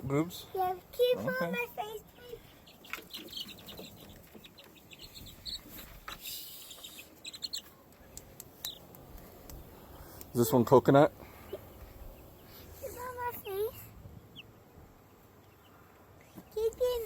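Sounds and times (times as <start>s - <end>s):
chicks peeping: 1.0s - 17.0s.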